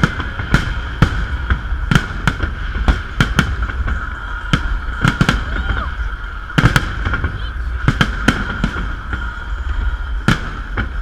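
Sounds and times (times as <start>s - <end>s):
fireworks bangs: 0.0s - 11.0s
steady hiss: 0.0s - 11.0s.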